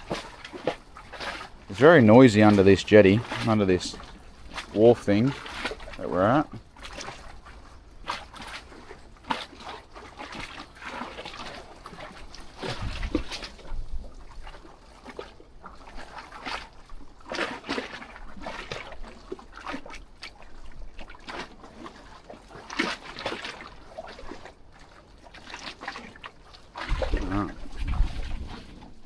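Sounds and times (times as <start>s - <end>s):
water slapping against pilings: 0.0s - 29.0s.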